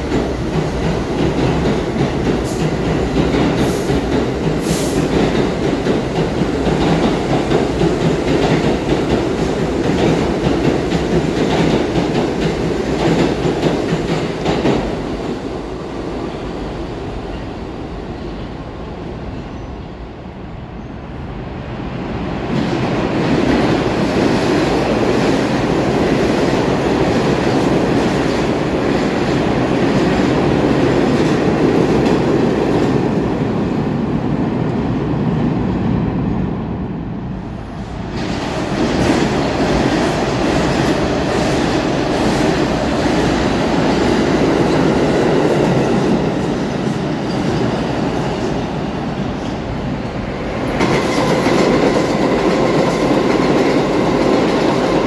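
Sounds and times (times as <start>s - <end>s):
rail joints clickety-clack: 0.0s - 55.0s
subway train wheels rumbling: 0.0s - 55.0s.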